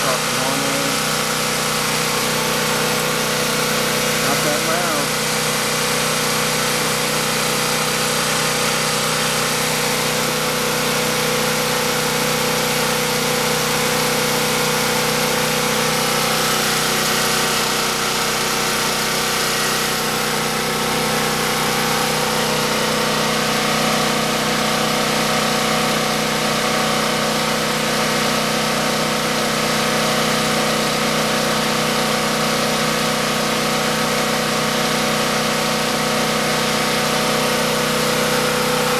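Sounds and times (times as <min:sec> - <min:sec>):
generator engine humming: 0:00.0 - 0:38.9.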